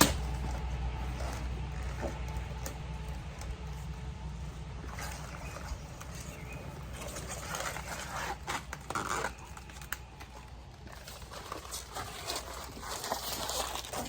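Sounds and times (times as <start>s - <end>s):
steady low rumble: 0.0s - 11.6s
rubber coating peeling: 0.0s - 14.0s.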